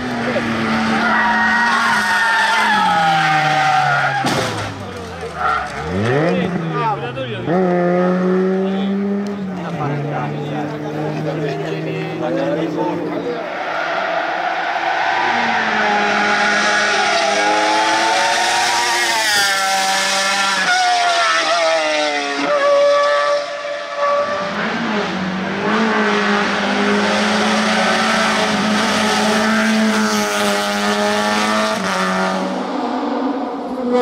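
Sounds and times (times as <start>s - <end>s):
race car engines revving: 0.0s - 34.0s.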